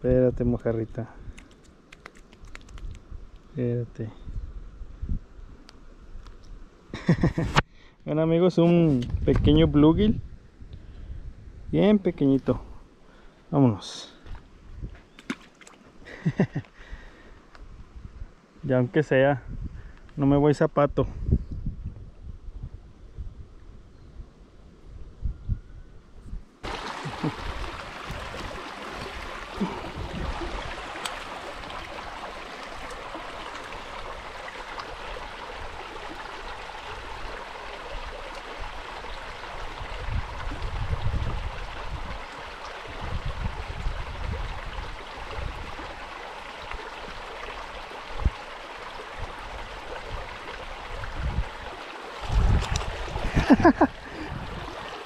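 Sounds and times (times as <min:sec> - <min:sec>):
wind rumbling on microphone: 0:00.0 - 0:03.4, 0:04.1 - 0:06.6, 0:08.8 - 0:12.8, 0:14.2 - 0:15.1, 0:16.9 - 0:18.4, 0:19.4 - 0:20.2, 0:20.9 - 0:47.3, 0:48.1 - 0:55.0.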